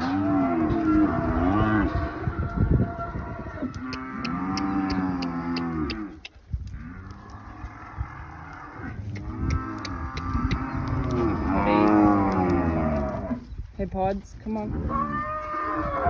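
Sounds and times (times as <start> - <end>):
cattle mooing: 0.0 - 6.2, 6.8 - 13.4.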